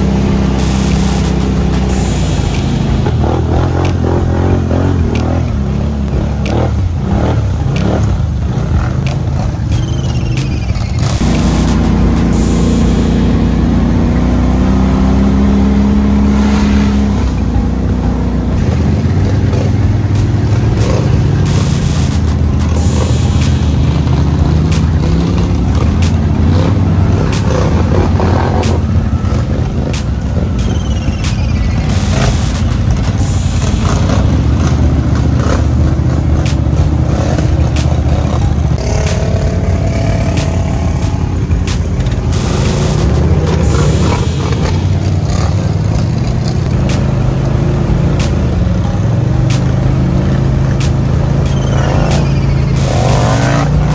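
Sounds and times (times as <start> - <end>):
atv engines running: 0.0 - 53.9
music: 0.0 - 53.9.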